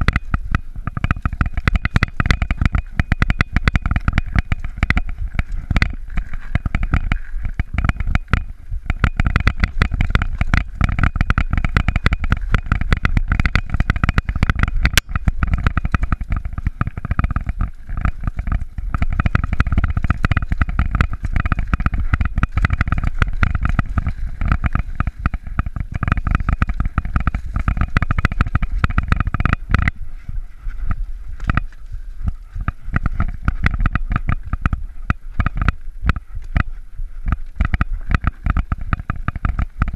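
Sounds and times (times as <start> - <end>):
bike rattling and clattering: 0.0 - 39.9.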